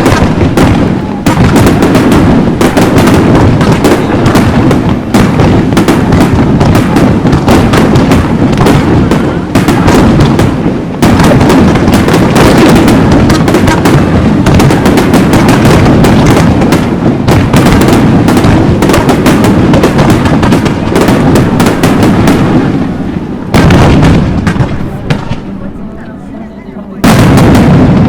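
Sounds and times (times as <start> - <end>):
fireworks crackling bursts: 0.0 - 28.0.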